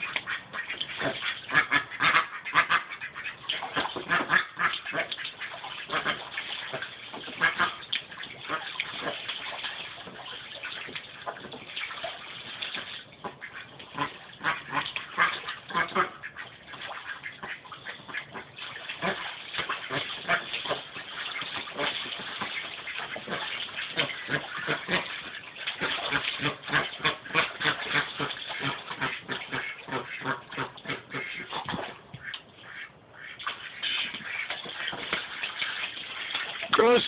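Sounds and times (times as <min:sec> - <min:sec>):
ducks quacking: 0:00.0 - 0:09.8, 0:12.8 - 0:37.0
ducks splashing in water: 0:00.0 - 0:37.0.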